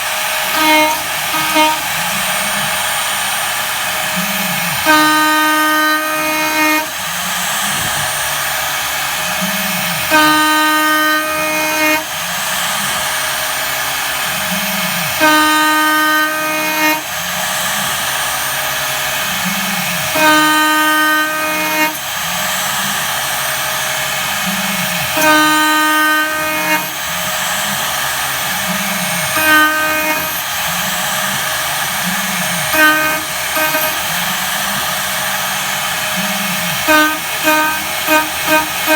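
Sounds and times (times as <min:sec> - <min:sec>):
axis drives gliding in pitch: 0:00.0 - 0:38.9
milling cutter whine: 0:00.0 - 0:38.9
spindle noise: 0:00.0 - 0:38.9.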